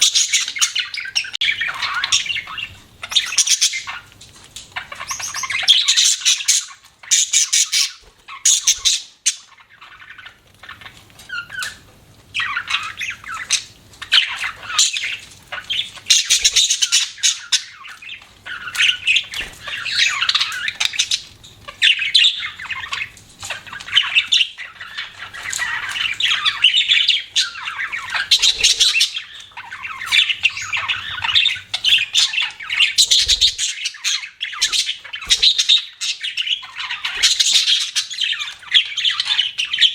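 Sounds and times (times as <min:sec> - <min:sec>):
bird squawks: 0:00.0 - 0:04.1, 0:04.7 - 0:39.9
budgerigars chirping and chattering: 0:00.0 - 0:39.9.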